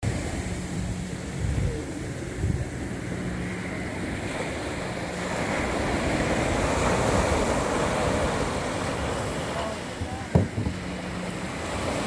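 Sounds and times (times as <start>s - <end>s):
wave washing up sand: 0.0s - 12.0s
wind rumbling on microphone: 0.0s - 12.0s.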